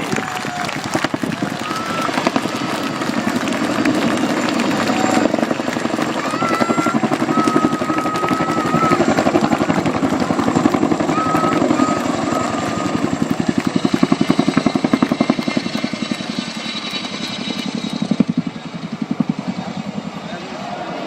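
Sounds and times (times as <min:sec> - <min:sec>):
helicopter rotor blade slap: 0:00.0 - 0:20.6.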